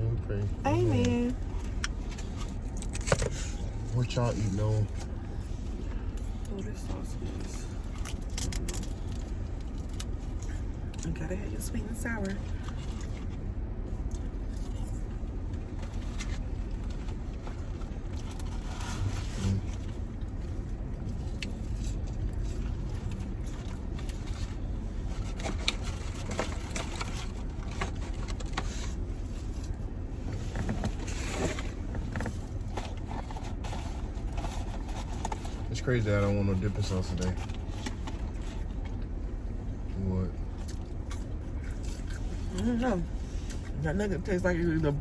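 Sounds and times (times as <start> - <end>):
car engine rumble in cabin: 0.0 - 45.0.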